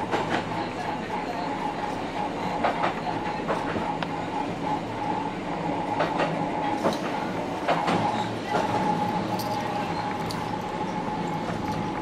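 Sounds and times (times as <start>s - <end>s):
wheels clicking over rail joints: 0.0s - 4.9s, 5.8s - 12.0s
electric train rumbling: 0.0s - 12.0s.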